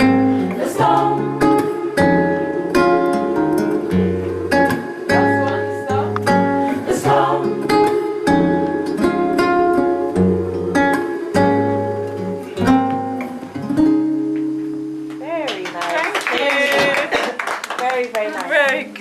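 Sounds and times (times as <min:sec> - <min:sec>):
instrumental rhythmic chords: 0:00.0 - 0:15.3.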